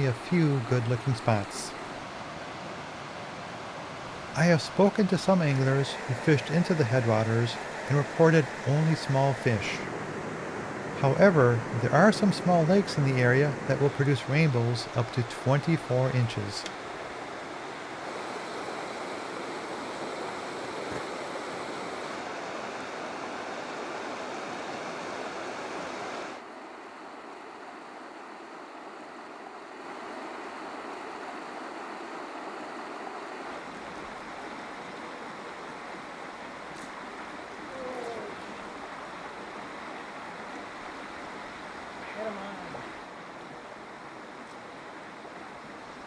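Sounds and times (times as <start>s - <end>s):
river rushing over rocks: 0.0s - 46.0s.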